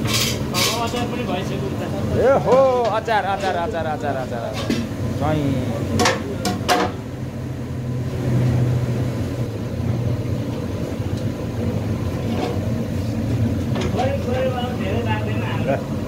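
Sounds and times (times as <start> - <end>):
low engine-like hum: 0.0 - 16.0.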